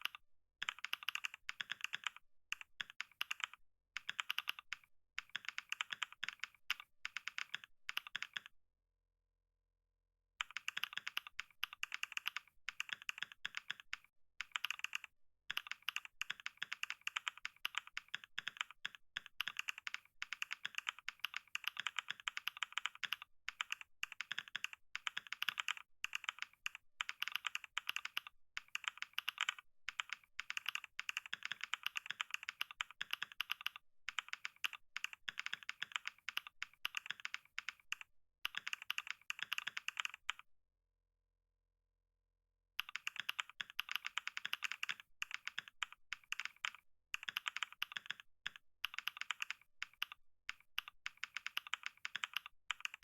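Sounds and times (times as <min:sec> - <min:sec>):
fast keyboard typing: 0:00.0 - 0:08.5, 0:10.4 - 0:40.4, 0:42.8 - 0:53.0.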